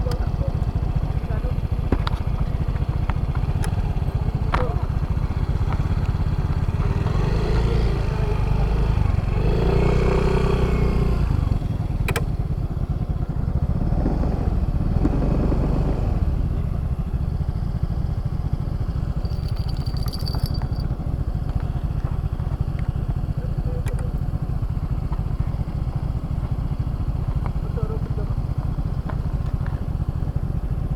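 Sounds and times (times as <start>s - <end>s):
scooter engine rumbling: 0.0s - 30.9s.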